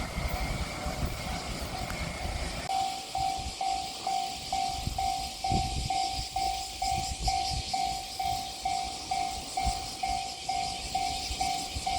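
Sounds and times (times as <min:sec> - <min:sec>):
level-crossing warning bell: 0:00.0 - 0:11.9.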